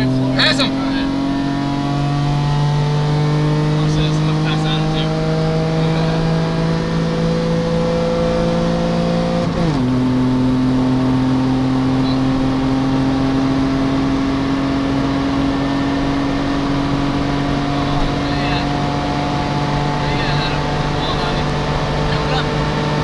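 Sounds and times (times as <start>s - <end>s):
car engine at full throttle: 0.0s - 23.0s.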